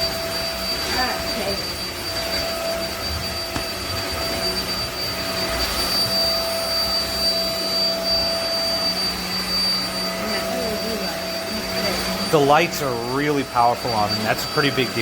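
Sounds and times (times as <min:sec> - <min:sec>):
stick vacuum running: 0:00.0 - 0:15.0.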